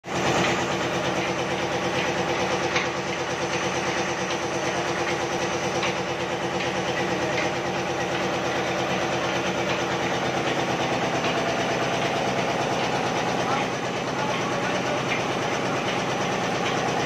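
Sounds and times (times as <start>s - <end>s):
oil expeller machine humming: 0.0s - 17.0s.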